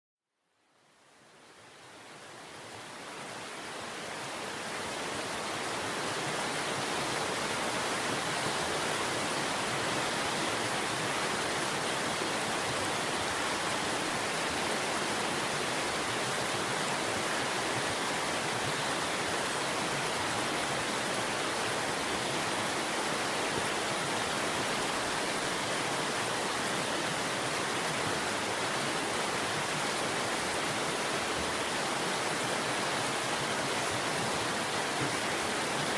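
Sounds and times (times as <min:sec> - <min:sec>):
running water rushing: 0:01.1 - 0:35.9.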